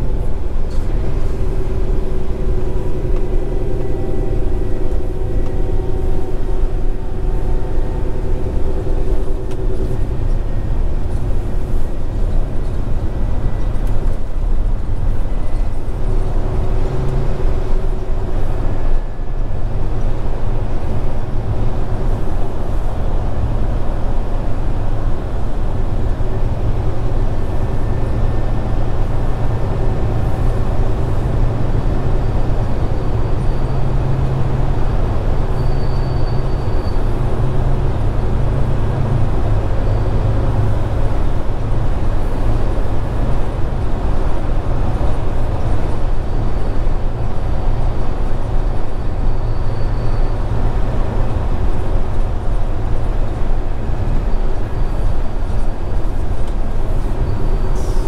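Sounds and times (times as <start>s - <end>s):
road and tyre noise: 0.0s - 58.0s
truck diesel engine drone: 0.0s - 58.0s.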